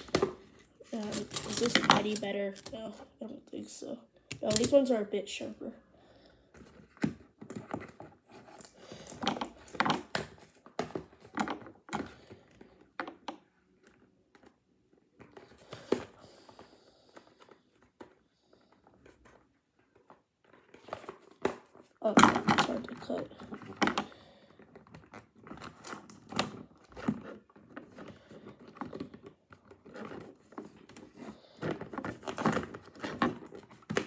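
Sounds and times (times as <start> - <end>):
packaging crinkling and rustling: 0.0 - 3.2, 6.5 - 34.0.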